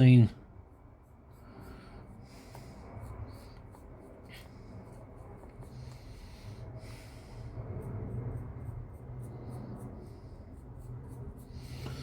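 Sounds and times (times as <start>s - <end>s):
paintbrush scratchy strokes: 0.0s - 12.0s
steady low hum: 0.0s - 12.0s.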